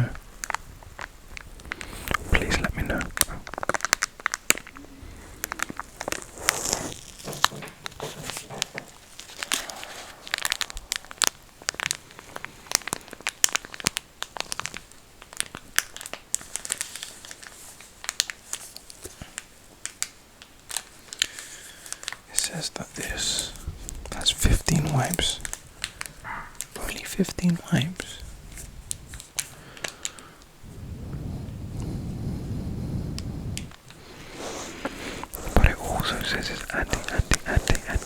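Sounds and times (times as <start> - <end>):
plastic packet crinkling and tapping: 0.1 - 4.8, 5.4 - 30.5, 35.3 - 38.0.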